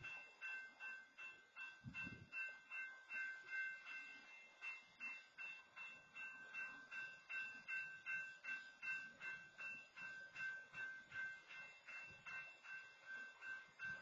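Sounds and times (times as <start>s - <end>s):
crossing warning bell ringing: 0.0s - 14.0s.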